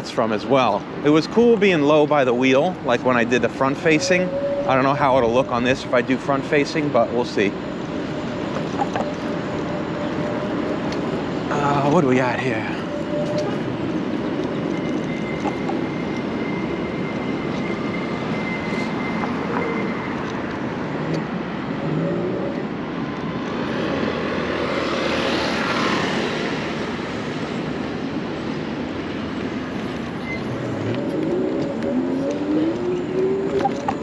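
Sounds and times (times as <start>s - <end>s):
street traffic: 0.0s - 34.0s
wind: 0.0s - 34.0s.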